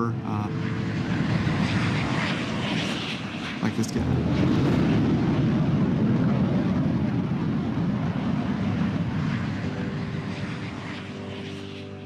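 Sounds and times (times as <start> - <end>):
airplane flying overhead: 0.0 - 12.0.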